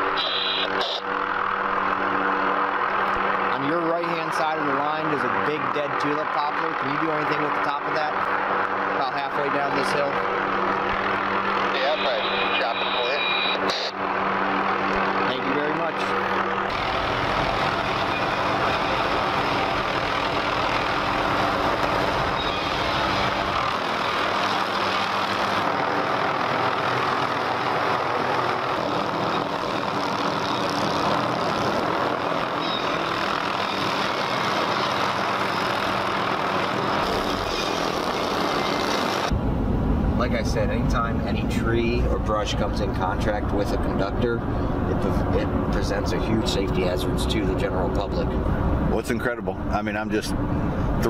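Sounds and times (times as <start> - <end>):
helicopter hovering: 0.0 - 51.0.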